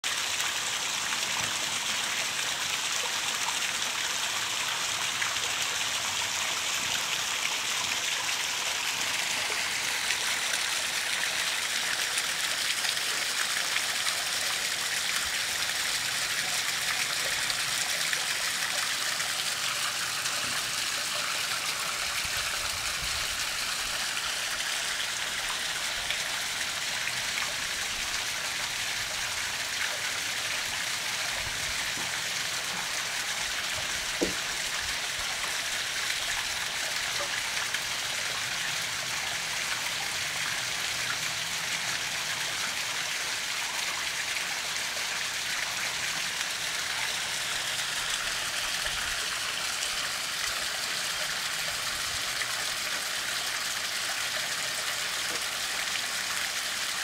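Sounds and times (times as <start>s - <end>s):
waterfall splashing over rocks: 0.0s - 57.0s.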